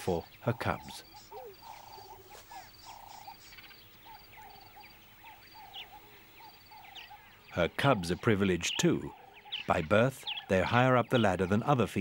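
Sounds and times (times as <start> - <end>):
frogs croaking: 0.0 - 12.0.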